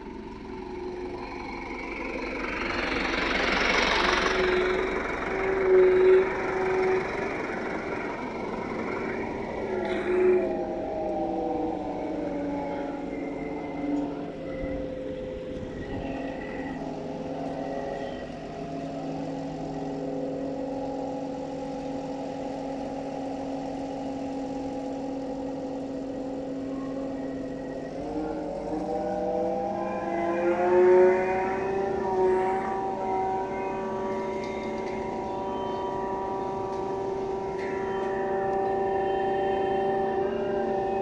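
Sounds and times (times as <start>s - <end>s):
heavy vehicle engine running: 0.0s - 41.0s.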